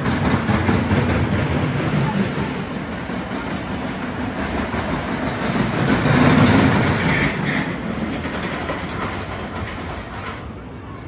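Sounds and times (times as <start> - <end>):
roller coaster rumbling on track: 0.0 - 11.0.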